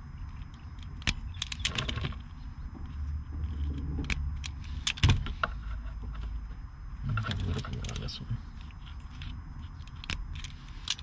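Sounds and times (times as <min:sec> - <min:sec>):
steady low rumble: 0:00.0 - 0:11.0
wires and tool clicking: 0:00.3 - 0:05.6, 0:07.2 - 0:11.0.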